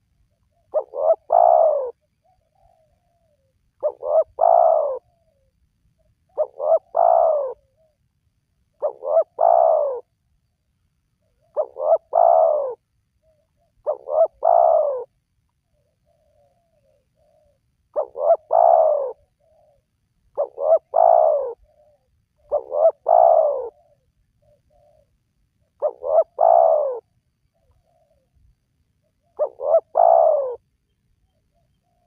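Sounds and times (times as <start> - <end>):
dove cooing: 0.0 - 8.0, 8.7 - 10.1, 11.2 - 28.3, 29.1 - 30.7.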